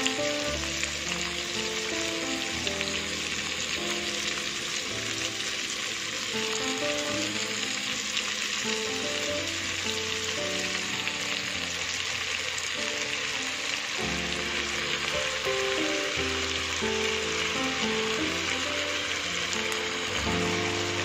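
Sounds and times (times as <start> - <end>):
light background music: 0.0 - 21.0
sauce pouring: 0.0 - 21.0
vegetables sizzling in a wok: 0.0 - 21.0.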